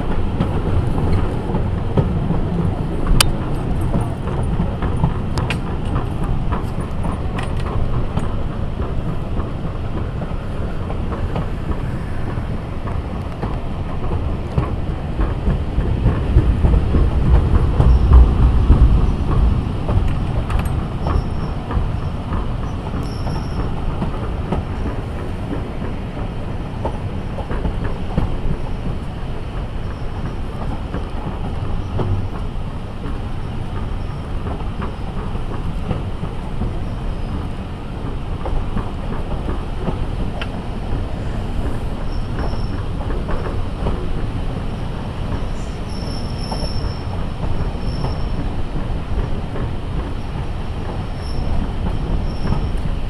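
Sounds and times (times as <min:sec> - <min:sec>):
clickety-clack over rail joints: 0:00.0 - 0:53.0
train wheels rumbling on rail: 0:00.0 - 0:53.0.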